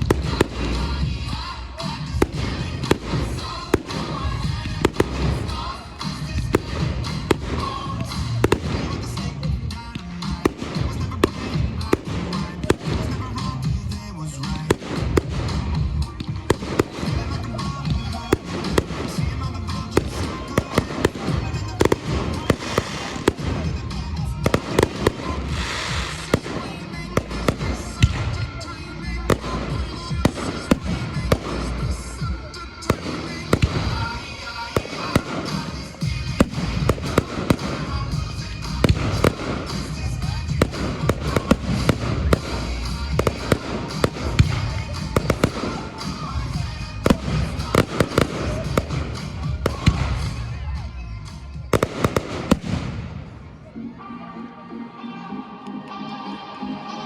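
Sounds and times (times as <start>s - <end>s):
fireworks bursting: 0.0s - 53.7s
music over loudspeakers: 0.0s - 57.0s.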